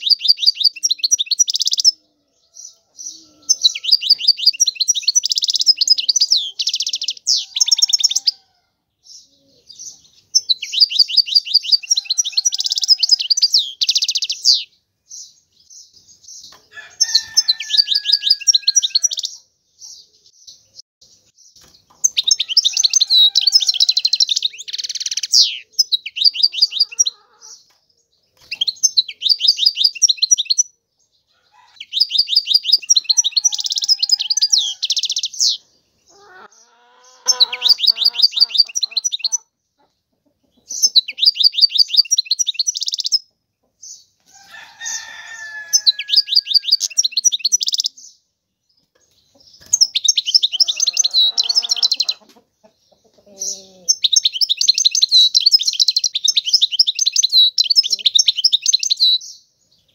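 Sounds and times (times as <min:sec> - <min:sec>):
faint lower-pitched bird calls: 0:00.0 - 0:48.2, 0:48.8 - 0:59.9.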